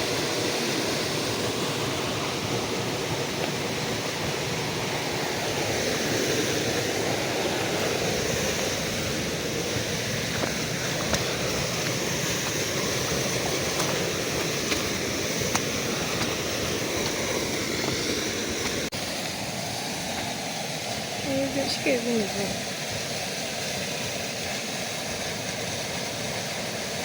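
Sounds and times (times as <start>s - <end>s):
flowing water: 0.0s - 27.0s.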